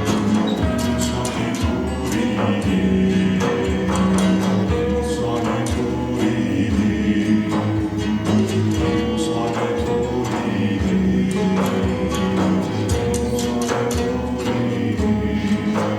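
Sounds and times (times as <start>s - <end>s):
percussive strikes: 0.0s - 15.9s
voices singing or chanting: 0.0s - 15.9s.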